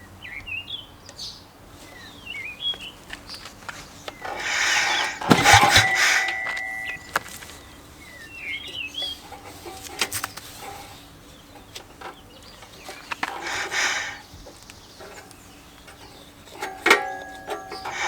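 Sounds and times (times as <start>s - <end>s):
birds clucking: 0.2s - 18.0s.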